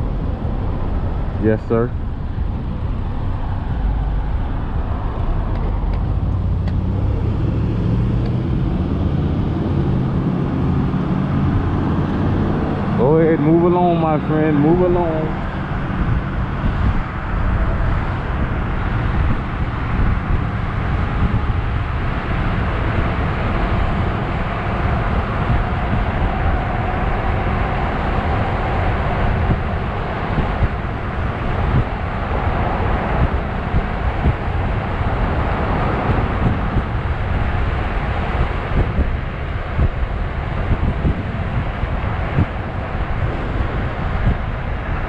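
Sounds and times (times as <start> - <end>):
tyre and road noise: 0.0 - 45.0
wind buffeting microphone: 0.0 - 45.0.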